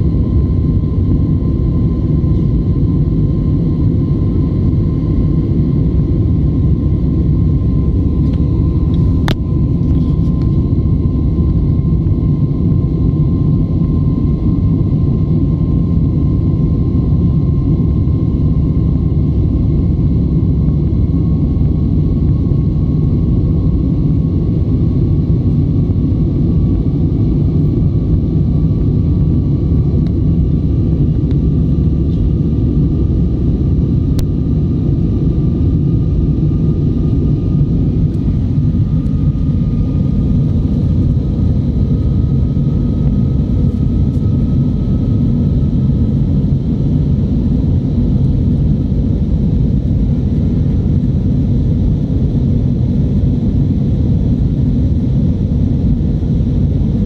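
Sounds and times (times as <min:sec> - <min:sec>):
jet engine rumble: 0:00.0 - 0:57.0.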